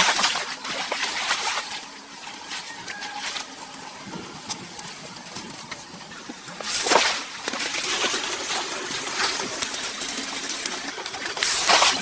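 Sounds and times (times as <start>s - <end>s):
water splashing and running: 0.0s - 12.0s.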